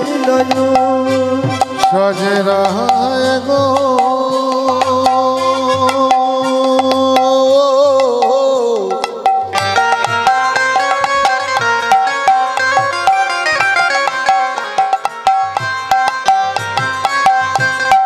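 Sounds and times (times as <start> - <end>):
hand drum strokes: 0.0 - 18.0
instrumental devotional melody: 0.0 - 18.0.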